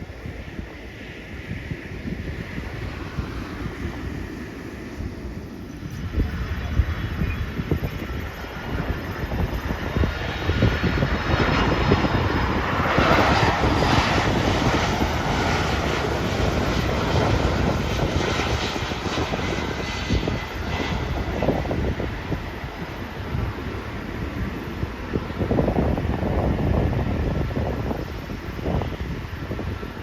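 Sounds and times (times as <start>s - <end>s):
jet airliner passing: 0.0s - 30.0s
wind buffeting microphone: 0.0s - 30.0s.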